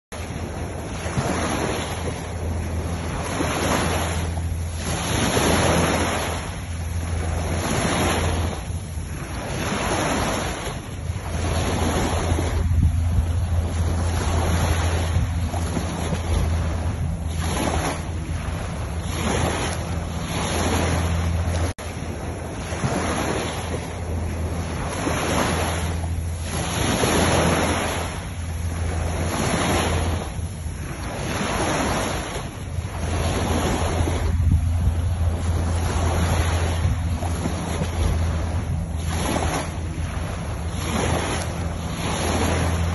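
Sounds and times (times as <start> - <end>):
wind rumbling on microphone: 0.1 - 42.9
surf washing on a beach: 0.2 - 42.9.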